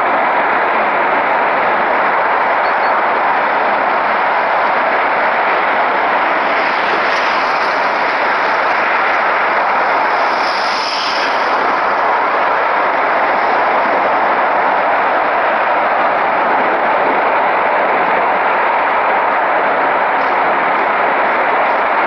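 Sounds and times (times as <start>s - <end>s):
gas jet rushing: 1.7s - 22.0s.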